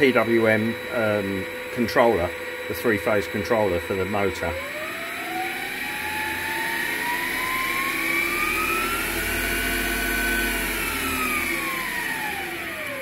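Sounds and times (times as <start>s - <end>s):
lathe motor whine: 0.0s - 13.0s.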